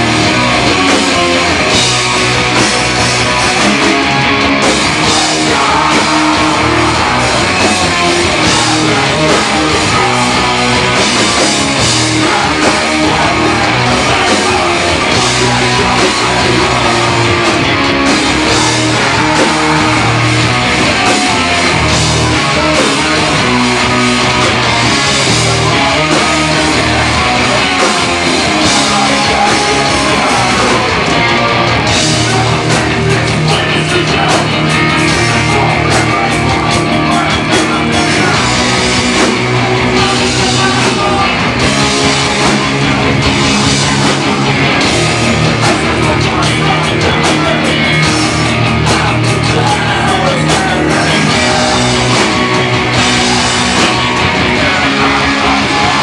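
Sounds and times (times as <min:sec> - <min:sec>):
bass guitar: 0:00.0 - 0:56.0
distorted electric guitars: 0:00.0 - 0:56.0
drum kit: 0:00.0 - 0:56.0
vocalist singing into microphone: 0:04.9 - 0:39.0, 0:39.8 - 0:42.0, 0:43.7 - 0:56.0.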